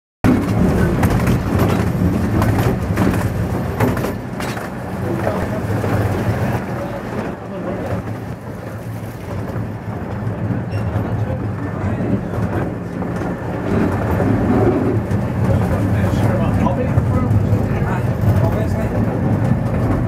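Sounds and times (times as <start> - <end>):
train rumbling on track: 0.2 - 20.0.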